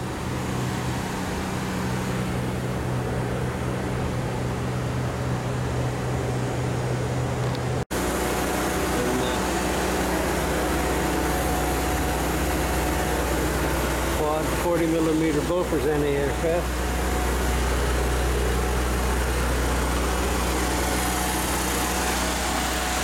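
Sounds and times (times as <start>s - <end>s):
steady machinery hum: 0.0s - 23.0s.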